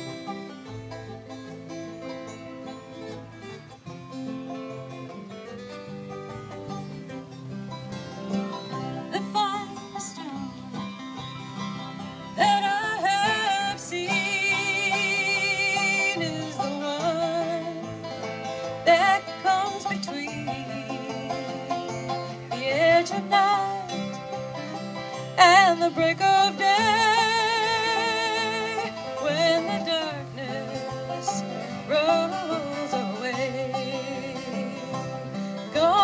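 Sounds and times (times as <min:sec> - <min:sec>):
banjo: 0:00.0 - 0:36.0
strummed acoustic guitars: 0:00.0 - 0:36.0.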